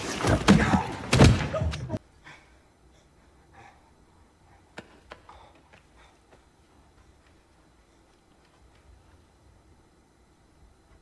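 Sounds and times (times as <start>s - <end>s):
faint scattered small sounds: 2.0s - 11.0s.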